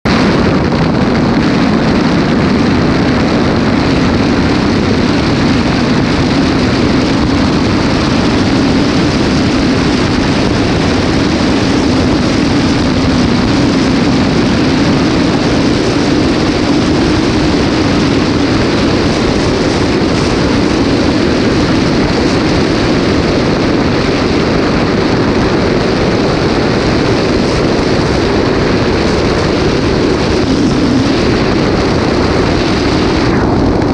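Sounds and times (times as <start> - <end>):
road and wind noise: 0.0 - 33.9
low hum: 0.1 - 33.9.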